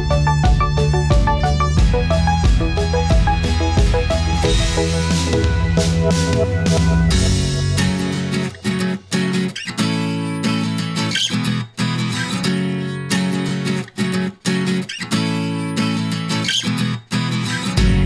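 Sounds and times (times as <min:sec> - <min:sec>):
guitar chords background music: 0:00.0 - 0:18.0.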